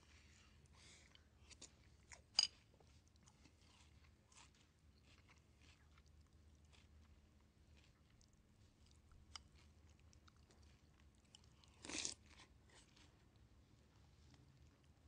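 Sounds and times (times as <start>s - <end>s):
chewing crunchy cereal: 1.0s - 15.0s.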